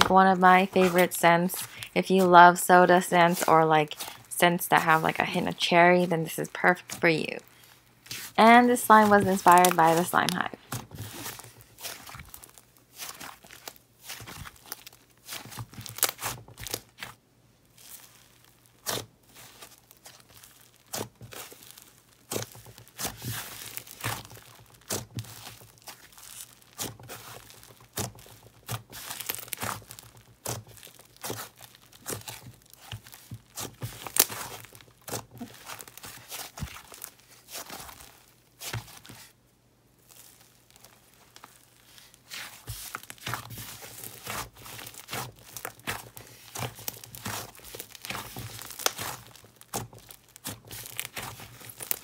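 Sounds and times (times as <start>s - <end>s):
slime crackling and tearing: 0.0s - 5.3s, 6.8s - 39.4s, 40.0s - 52.0s.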